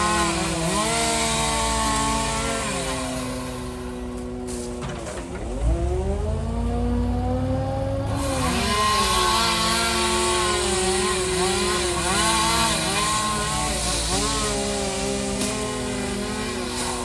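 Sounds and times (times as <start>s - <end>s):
chainsaw engine revving: 0.0s - 4.5s, 5.4s - 17.0s.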